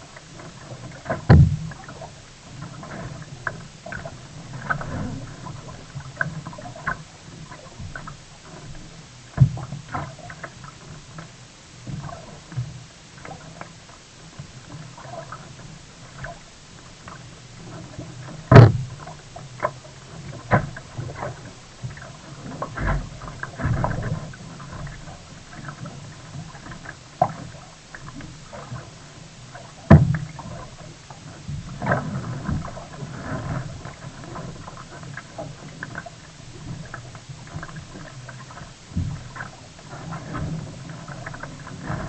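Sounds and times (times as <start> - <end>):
paddle splashes in water: 0.0 - 42.0.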